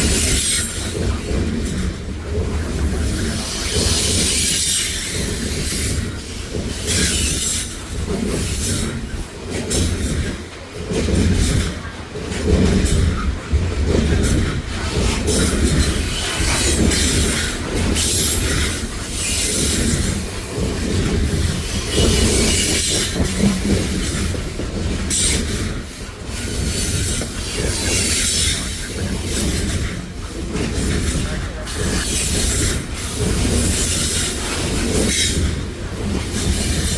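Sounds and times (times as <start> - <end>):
steel wheels rumbling on rail: 0.0 - 36.9
wheels clacking over rail joints: 0.0 - 36.9.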